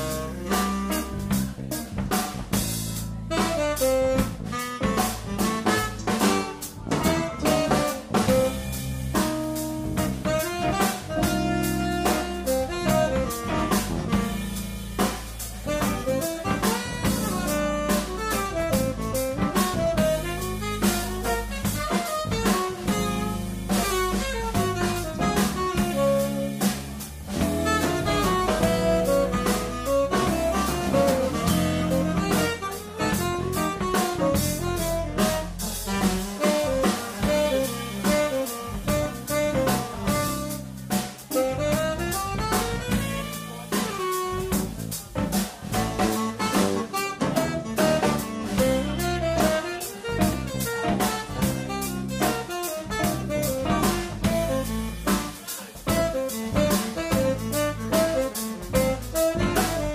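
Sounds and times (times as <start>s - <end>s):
tenor saxophone melody: 0.0s - 1.8s, 3.2s - 59.9s
drum kit: 0.0s - 59.9s
electric bass: 0.0s - 59.9s.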